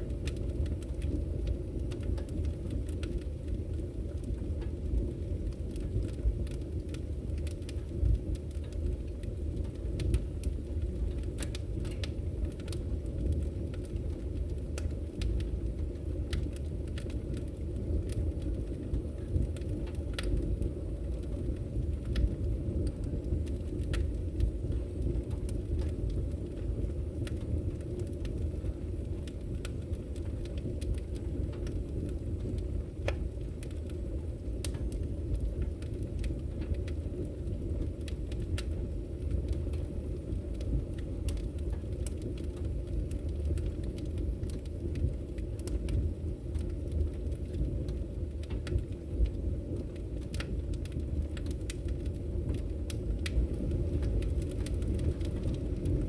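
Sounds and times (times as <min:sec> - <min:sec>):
burning wood crackling and popping: 0:00.0 - 0:56.0
low rumble of flames: 0:00.0 - 0:56.0.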